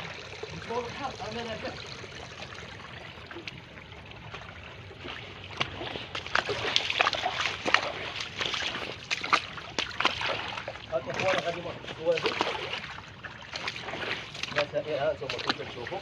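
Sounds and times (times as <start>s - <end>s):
sea water washing: 0.0s - 16.0s
water splashing and slapping: 0.0s - 16.0s.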